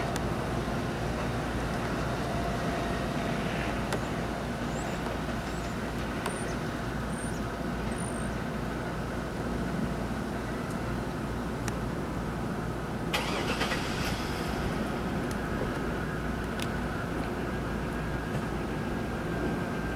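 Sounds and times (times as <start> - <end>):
train low rumble: 0.0 - 19.9.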